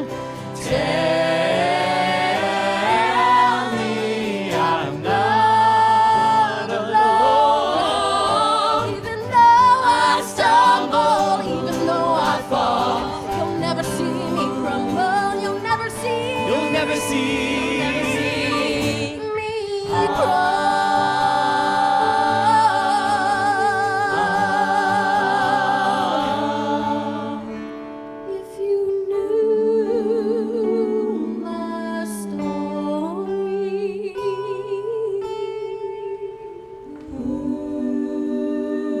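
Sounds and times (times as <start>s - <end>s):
voices singing in harmony: 0.0s - 39.0s.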